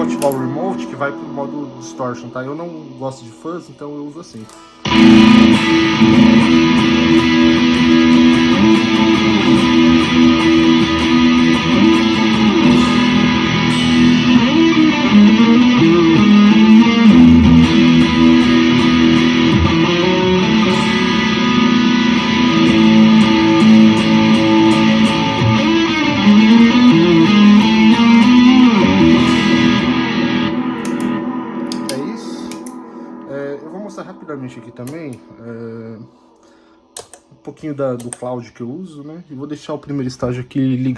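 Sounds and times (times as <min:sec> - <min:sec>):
distorted electric guitar: 0:00.0 - 0:38.2.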